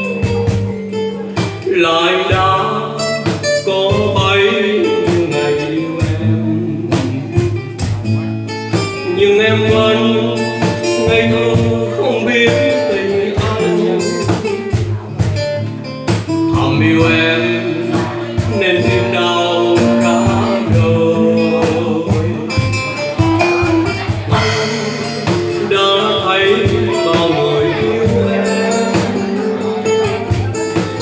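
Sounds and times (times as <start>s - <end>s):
man singing into microphone: 0.0s - 8.2s, 8.8s - 15.2s, 16.4s - 31.0s
strummed acoustic guitar: 0.0s - 31.0s
steady percussive beat: 2.3s - 31.0s.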